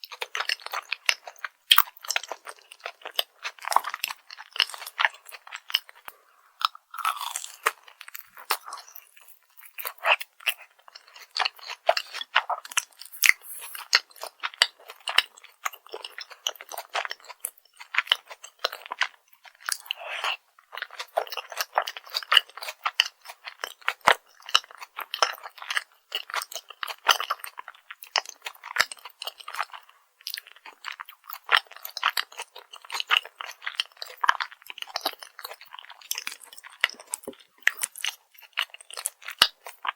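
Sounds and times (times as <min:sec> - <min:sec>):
chewing crispy food: 0:00.0 - 0:39.9.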